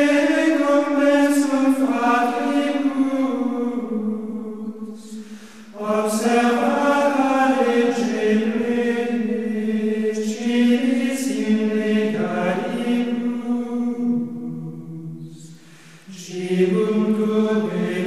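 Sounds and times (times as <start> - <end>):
choir holding long notes: 0.0 - 18.0.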